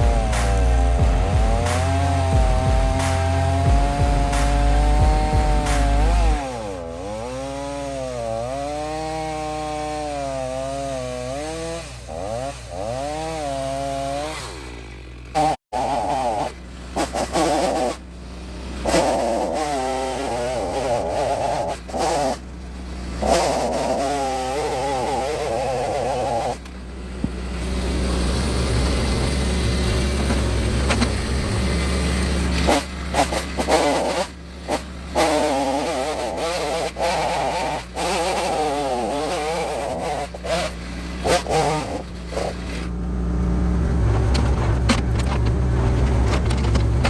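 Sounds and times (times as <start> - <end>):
chainsaw engine revving: 0.0 - 47.0.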